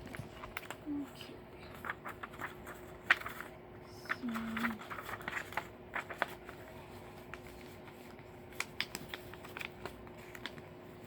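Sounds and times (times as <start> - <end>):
packaging clicks and crinkles: 0.0 - 11.0.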